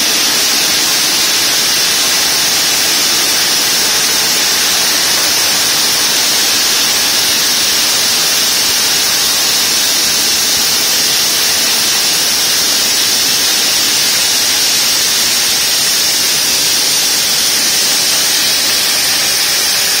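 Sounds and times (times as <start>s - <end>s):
circular saw cutting stone: 0.0s - 20.0s.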